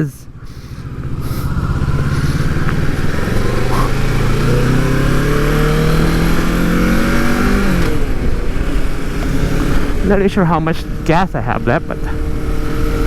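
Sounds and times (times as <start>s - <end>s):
motorcycle engine accelerating: 0.2s - 13.0s.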